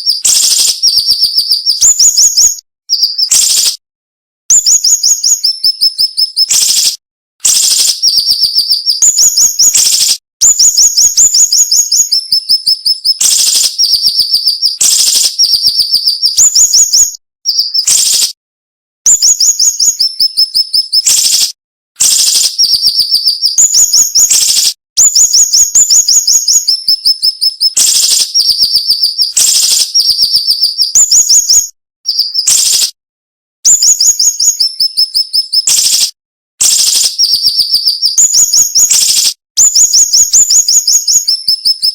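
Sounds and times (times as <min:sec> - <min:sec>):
bird singing sharp high chirps: 0:00.0 - 0:03.8, 0:04.5 - 0:18.4, 0:19.1 - 0:33.0, 0:33.7 - 0:41.9.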